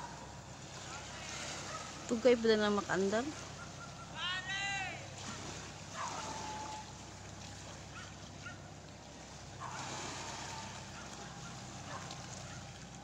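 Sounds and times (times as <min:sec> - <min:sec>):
boat engine idling: 0:00.0 - 0:13.0
water wash: 0:00.0 - 0:13.0.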